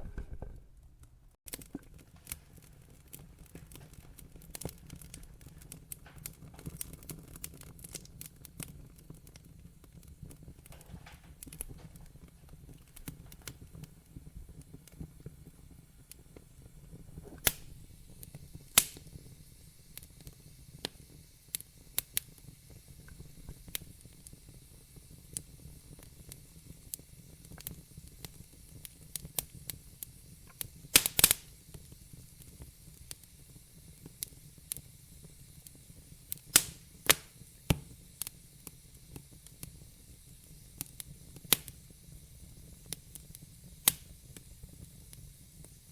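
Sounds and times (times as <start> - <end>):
loud fire pops: 0.0 - 45.9
wood fire crackling: 0.0 - 45.9.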